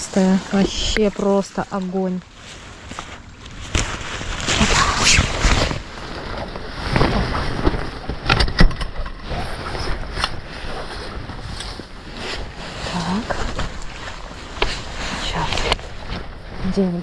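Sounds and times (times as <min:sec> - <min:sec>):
umbrella rustling against reeds: 0:00.0 - 0:08.4, 0:09.2 - 0:17.0.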